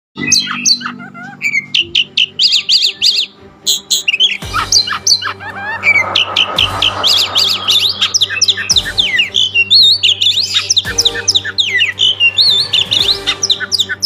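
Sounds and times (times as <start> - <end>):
bird singing high chirps: 0.2 - 14.0.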